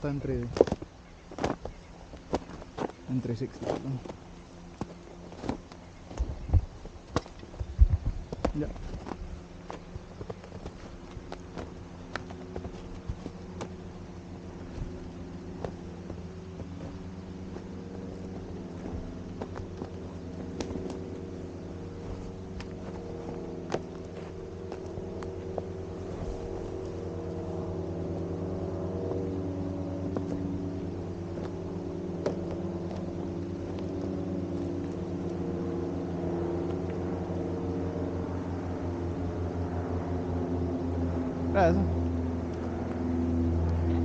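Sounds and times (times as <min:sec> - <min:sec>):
engine droning: 0:00.0 - 0:44.0.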